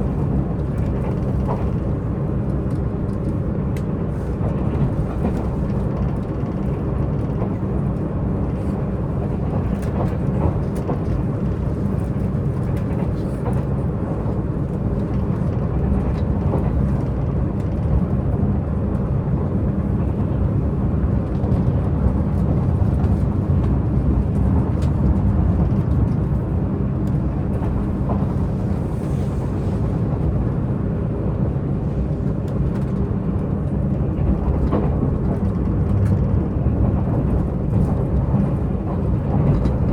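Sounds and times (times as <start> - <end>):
train diesel engine rumble: 0.0 - 39.9
train wheels on track: 0.0 - 39.9.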